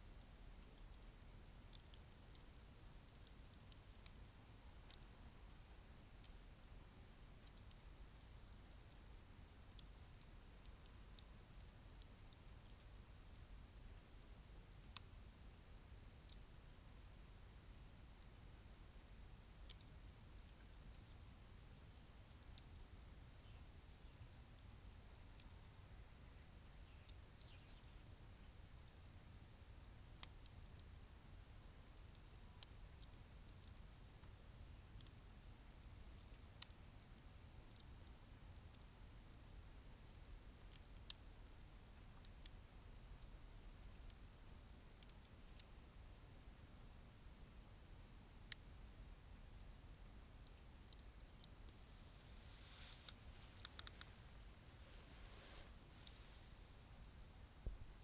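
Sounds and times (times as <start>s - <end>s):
low steady rumble: 0.0s - 58.0s
campfire crackling: 0.2s - 58.0s.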